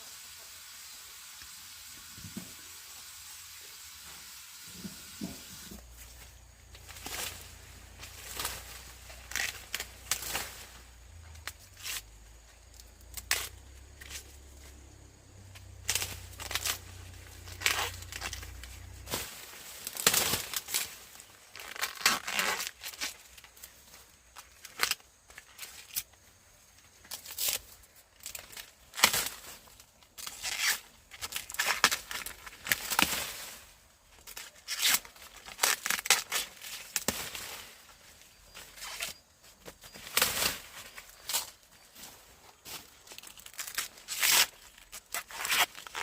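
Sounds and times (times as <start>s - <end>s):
dry plant material tearing: 5.5s - 14.5s, 15.5s - 26.2s, 27.0s - 39.2s, 39.8s - 46.0s.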